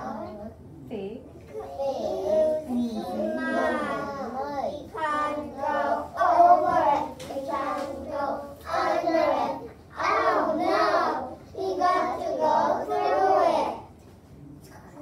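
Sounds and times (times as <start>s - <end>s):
children chanting in unison: 1.8s - 13.9s.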